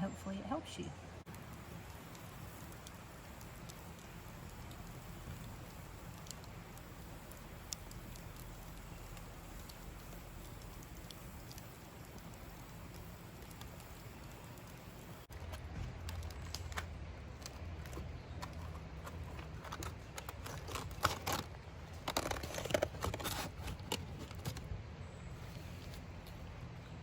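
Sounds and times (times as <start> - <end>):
aluminium foil crinkling: 1.3 - 24.6
small clicks: 1.3 - 24.6.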